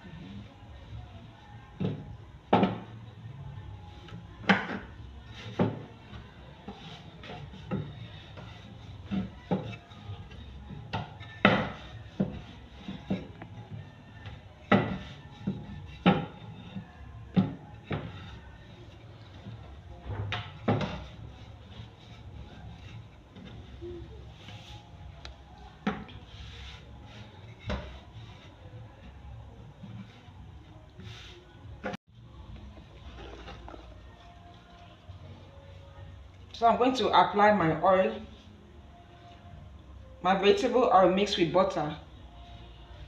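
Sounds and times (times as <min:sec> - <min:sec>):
background music: 0:00.0 - 0:43.0.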